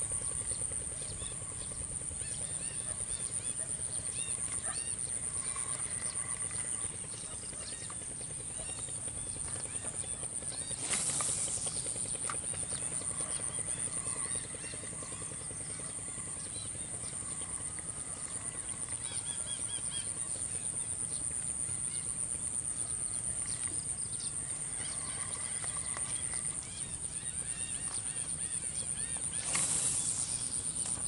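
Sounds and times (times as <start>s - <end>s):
high-pitched insect drone: 0.0s - 31.0s.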